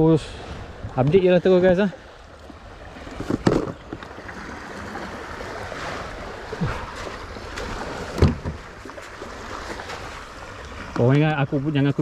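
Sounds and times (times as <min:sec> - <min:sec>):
water lapping against kayak: 0:00.0 - 0:12.0.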